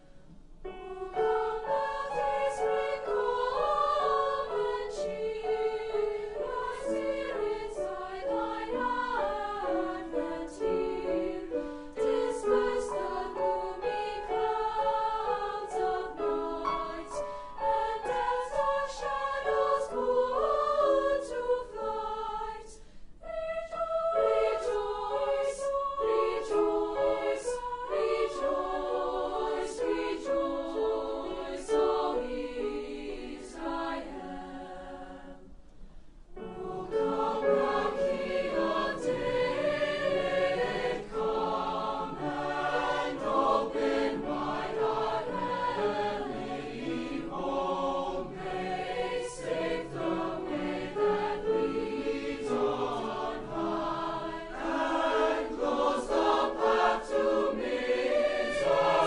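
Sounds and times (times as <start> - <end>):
choir singing: 0.6 - 35.6, 36.3 - 59.0.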